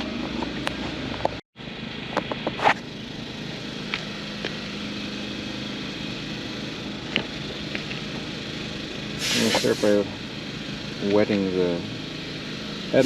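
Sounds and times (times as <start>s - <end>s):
generators running: 0.0s - 13.0s.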